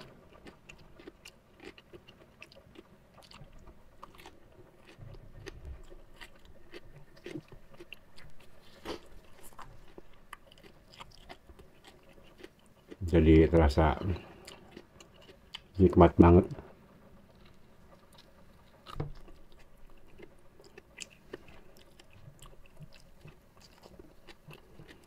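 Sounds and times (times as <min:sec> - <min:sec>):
close chewing crunches: 0:00.0 - 0:25.0.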